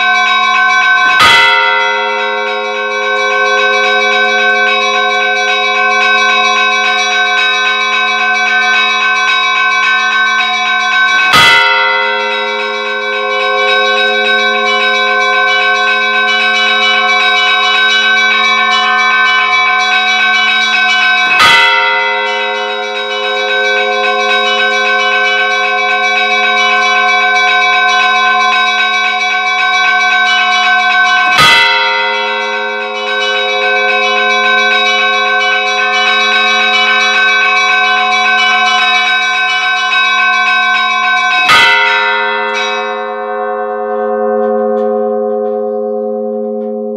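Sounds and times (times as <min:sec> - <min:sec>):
sharp bell strike: 0:00.0 - 0:39.2, 0:39.9 - 0:46.9
church bells pealing: 0:00.0 - 0:46.9.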